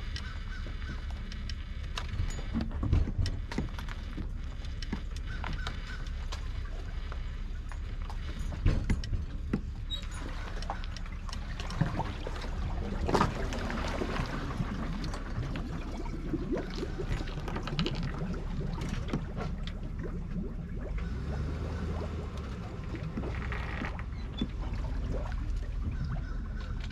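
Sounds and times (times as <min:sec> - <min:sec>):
steady low rumble: 0:00.0 - 0:26.9
water sloshing around boat: 0:00.0 - 0:26.9.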